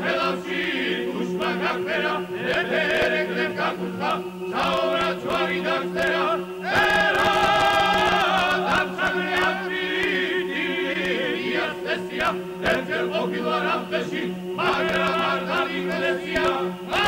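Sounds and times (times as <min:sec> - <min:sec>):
male choir singing a cappella: 0:00.0 - 0:17.0.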